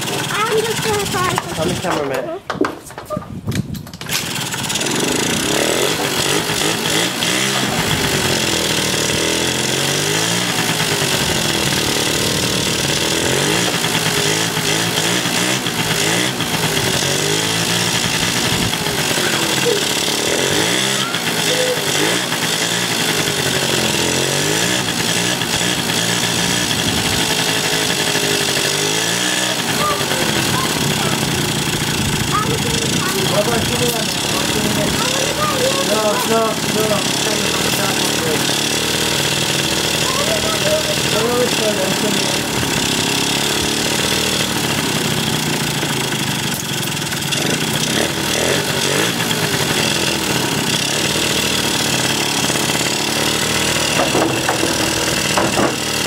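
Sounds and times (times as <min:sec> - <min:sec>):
scooter engine revving: 0:00.0 - 0:02.4, 0:04.0 - 0:56.0.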